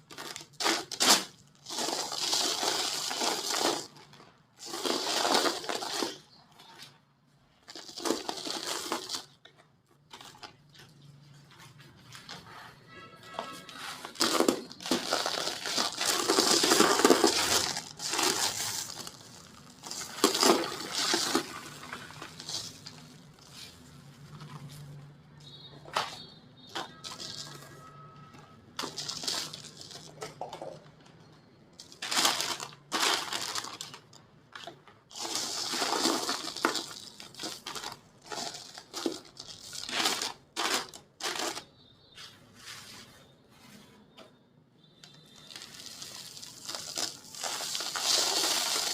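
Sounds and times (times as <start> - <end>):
brittle cement crunching: 0.0 - 7.0, 7.6 - 11.0, 13.3 - 24.7, 25.4 - 30.9, 31.8 - 41.7, 45.1 - 48.9.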